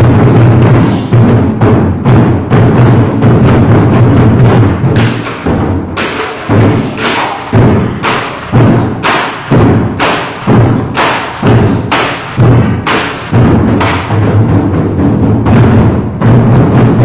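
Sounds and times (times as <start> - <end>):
large drums beating: 0.0 - 17.0.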